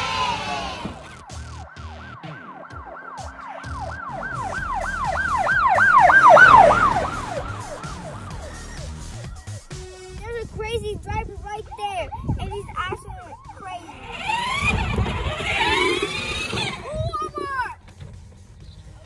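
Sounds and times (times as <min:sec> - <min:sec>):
yelp siren: 0:00.0 - 0:09.7, 0:11.6 - 0:17.6.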